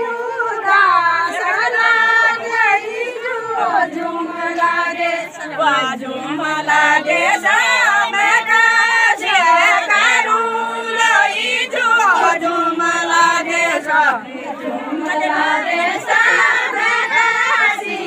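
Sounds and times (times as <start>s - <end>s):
women singing in chorus: 0.0s - 18.0s.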